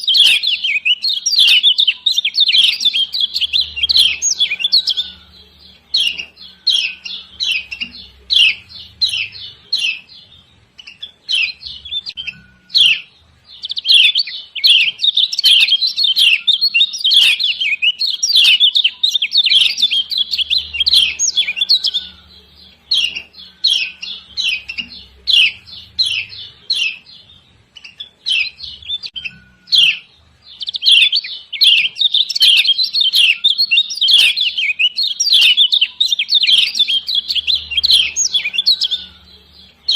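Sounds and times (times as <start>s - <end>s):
bird chirping sharply: 0.0s - 39.9s.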